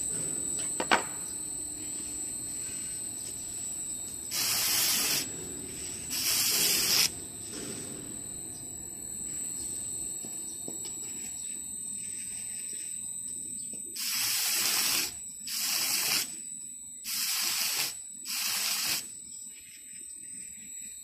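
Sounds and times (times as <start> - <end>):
steady high-pitched machine whine: 0.0 - 21.0.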